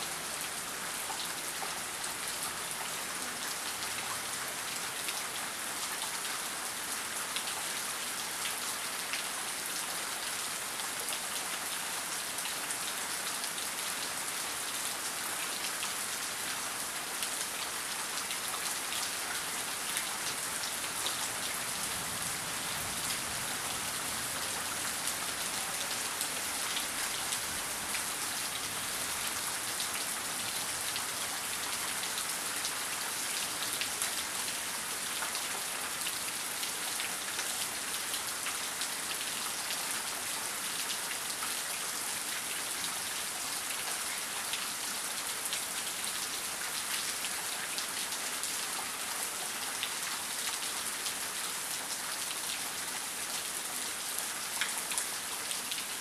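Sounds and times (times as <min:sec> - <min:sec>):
dense rainfall: 0:00.0 - 0:56.0.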